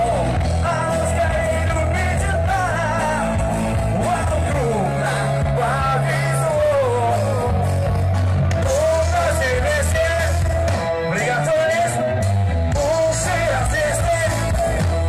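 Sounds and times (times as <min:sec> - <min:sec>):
bass line: 0:00.0 - 0:15.0
lead singer singing: 0:00.0 - 0:15.0
rock-pop band over speakers: 0:00.0 - 0:15.0.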